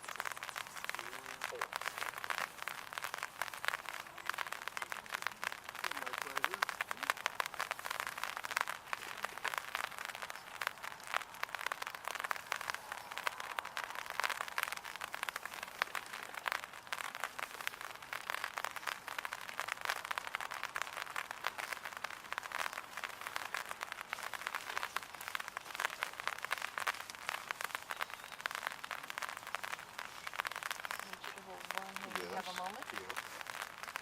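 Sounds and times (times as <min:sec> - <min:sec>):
light rain pattering: 0:00.0 - 0:34.0.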